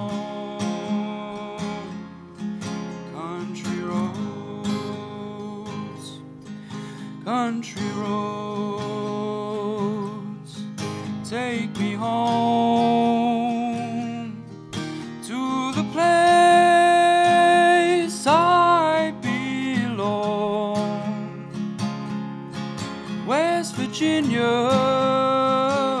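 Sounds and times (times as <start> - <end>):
young man singing: 0.0 - 2.2, 3.0 - 21.5, 23.1 - 26.0
strummed acoustic guitar: 0.0 - 26.0.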